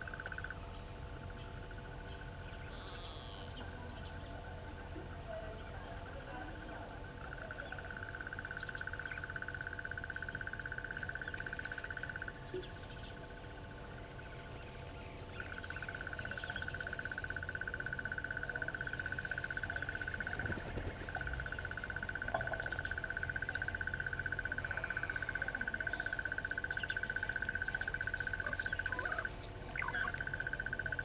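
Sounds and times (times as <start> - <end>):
rapidly pulsing animal trill: 0.0 - 31.0.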